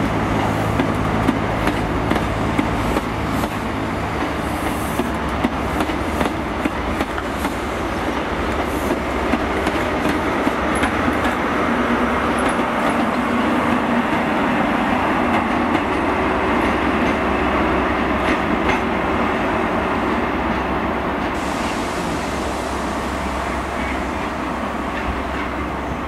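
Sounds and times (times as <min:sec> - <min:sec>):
train rail rumble: 0:00.0 - 0:26.0.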